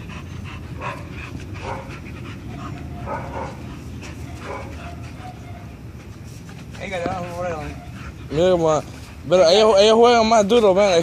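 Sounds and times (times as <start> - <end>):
dogs play-fighting: 0.0 - 11.0.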